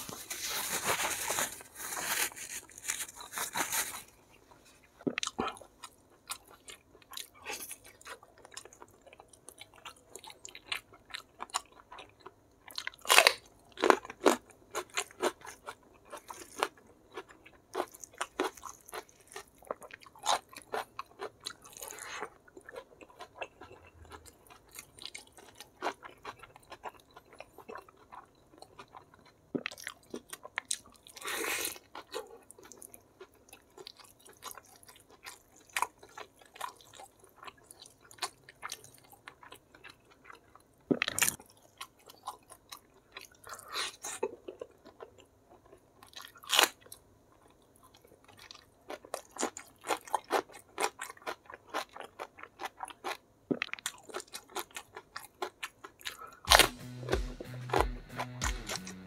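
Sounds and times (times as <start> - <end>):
crunching fried chicken: 5.0 - 59.0.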